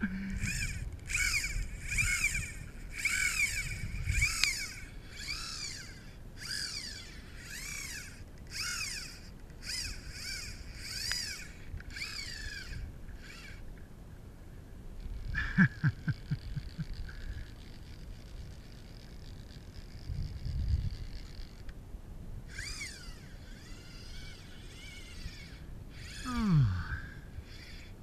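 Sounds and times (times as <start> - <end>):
fishing reel drag buzzing: 0.0 - 13.7, 15.0 - 21.7, 22.5 - 28.0.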